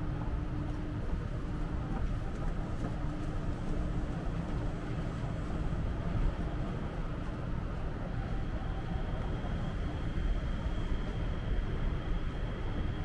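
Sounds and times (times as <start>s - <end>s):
elevated train approaching: 0.0s - 13.0s.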